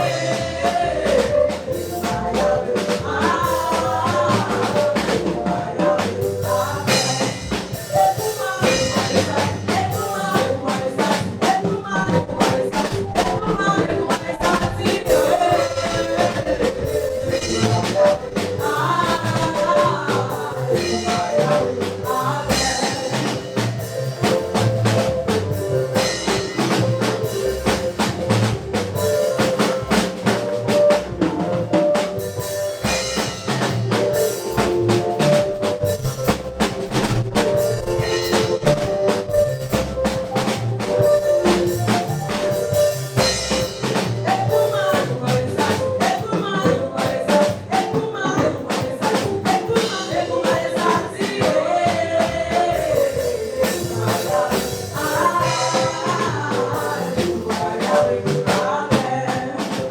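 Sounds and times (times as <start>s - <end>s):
drum kit beat: 0.0s - 59.9s
live band playing upbeat music: 0.0s - 59.9s.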